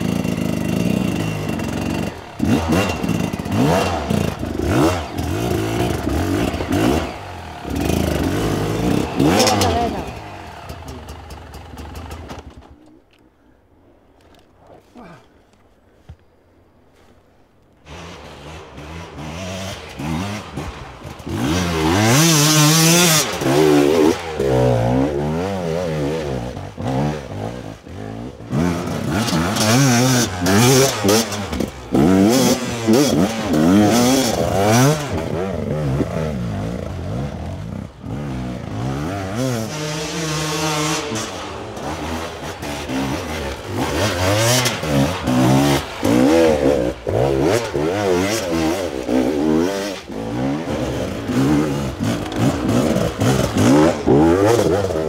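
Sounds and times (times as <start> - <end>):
dirt bike engines revving: 0.0 - 13.0, 17.8 - 55.0.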